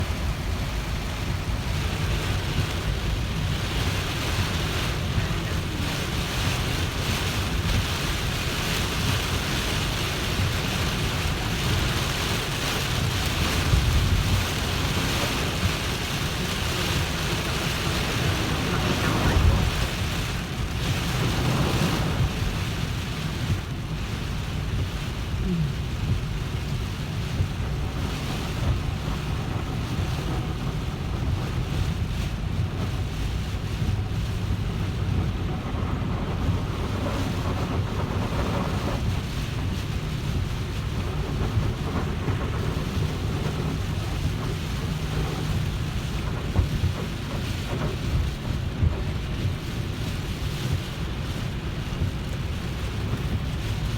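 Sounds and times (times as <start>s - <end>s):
car road and wind noise: 0.0s - 53.9s
rain hiss: 0.0s - 53.9s.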